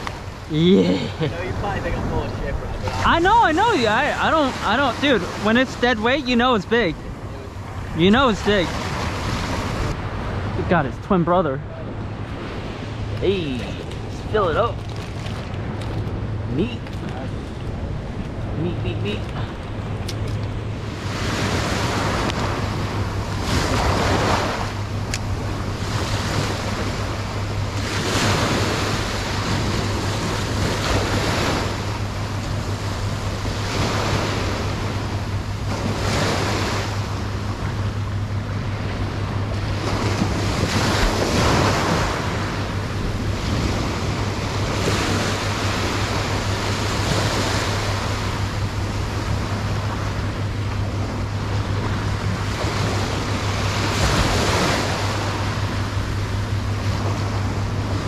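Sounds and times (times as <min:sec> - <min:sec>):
ocean surf breaking on sand: 0:00.0 - 0:58.0.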